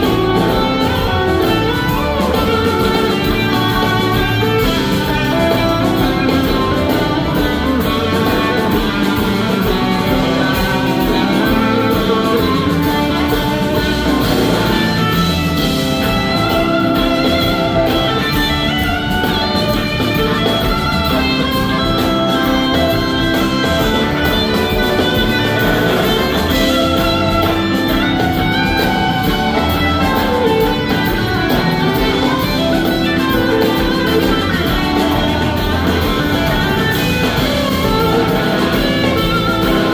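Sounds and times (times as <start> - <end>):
drum kit: 0.0 - 39.9
electric guitars playing: 0.0 - 39.9.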